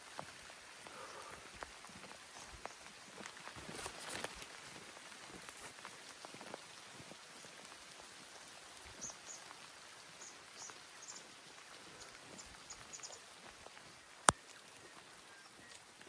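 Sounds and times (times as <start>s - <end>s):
light rain pattering: 0.0s - 16.0s.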